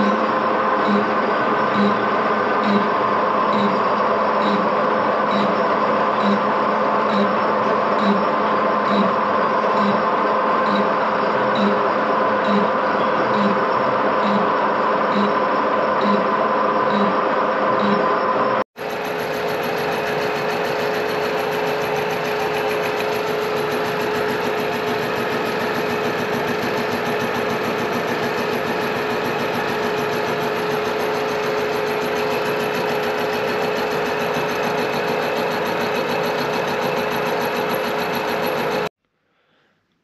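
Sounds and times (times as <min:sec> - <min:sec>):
milling machine cutting steel: 0:00.0 - 0:18.1, 0:18.8 - 0:38.9.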